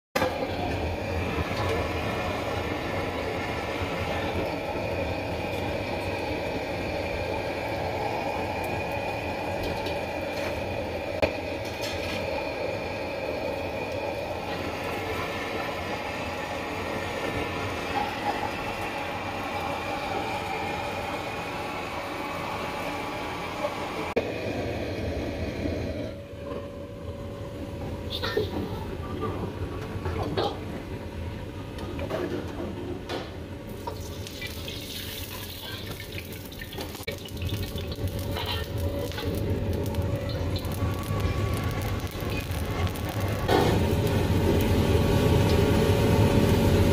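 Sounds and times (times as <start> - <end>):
gas burner rushing: 0.2 - 27.2, 33.1 - 46.9.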